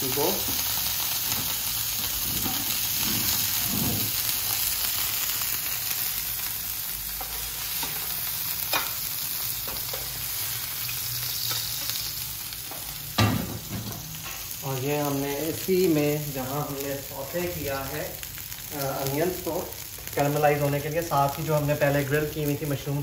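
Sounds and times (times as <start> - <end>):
burger patties sizzling in pan: 0.0 - 23.0.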